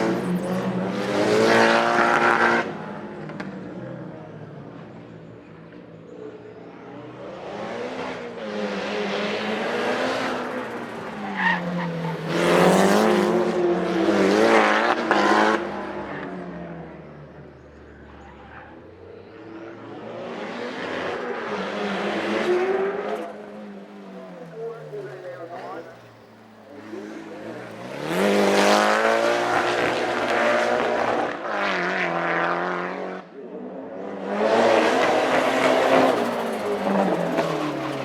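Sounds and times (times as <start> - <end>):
racing car engine revving: 0.0 - 5.8, 6.8 - 17.4, 18.0 - 38.0.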